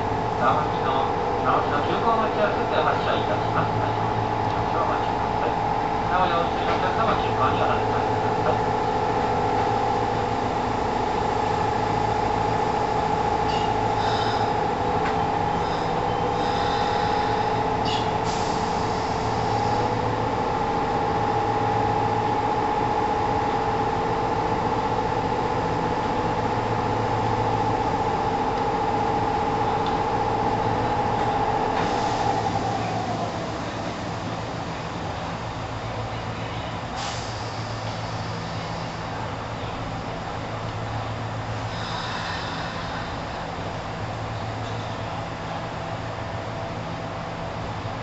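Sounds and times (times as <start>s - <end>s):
train equipment hum: 0.0s - 48.0s.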